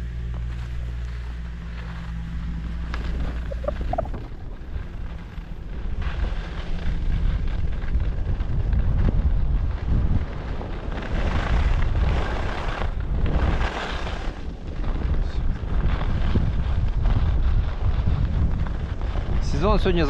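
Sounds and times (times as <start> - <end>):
wind buffeting microphone: 2.4 - 20.0.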